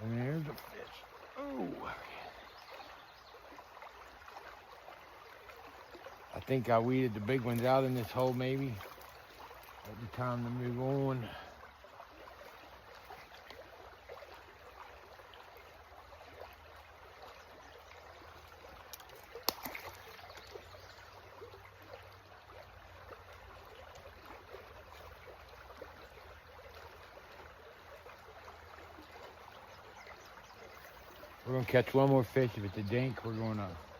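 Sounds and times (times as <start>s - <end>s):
creek water trickling: 0.0s - 33.9s.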